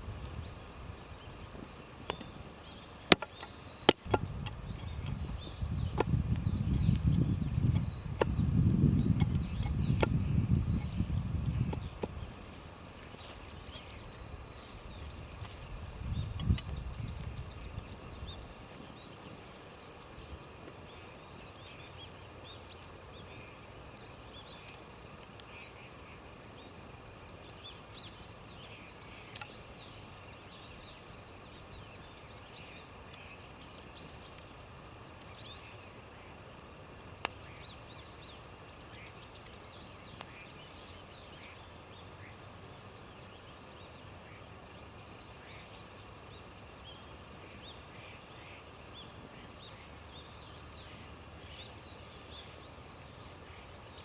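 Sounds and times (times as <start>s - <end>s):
birds chirping: 0.0s - 54.0s
steady background hiss: 0.0s - 54.0s.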